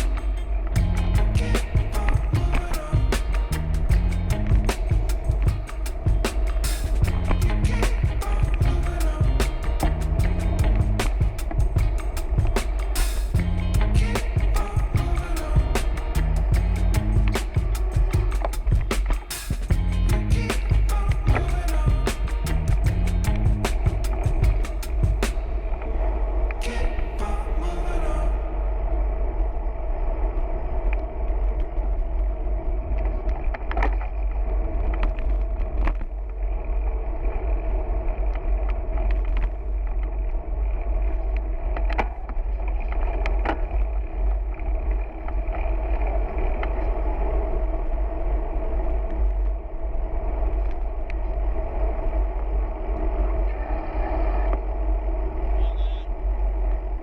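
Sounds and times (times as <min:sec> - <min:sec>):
bicycle road noise: 0:00.0 - 0:26.8, 0:27.6 - 0:57.0
wind rumbling on microphone: 0:00.0 - 0:57.0.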